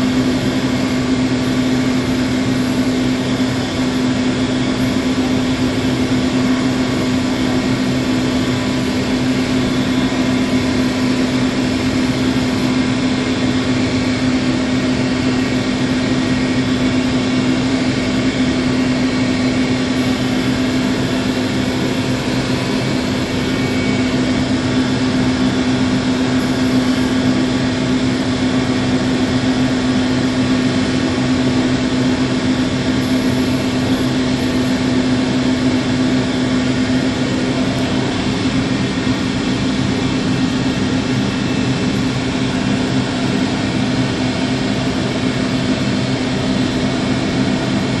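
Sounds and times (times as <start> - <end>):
ventilation air rushing: 0.0 - 48.0.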